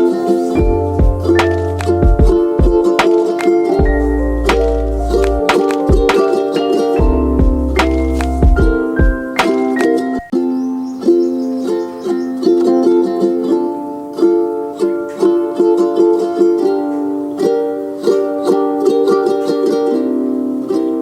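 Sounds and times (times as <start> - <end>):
plucked ukulele-like tune: 0.0 - 21.0.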